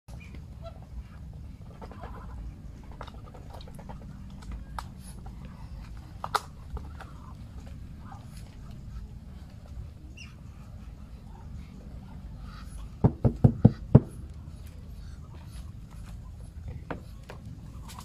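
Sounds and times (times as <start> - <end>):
duck bills clicking and crunching: 0.1 - 13.0, 13.6 - 18.0.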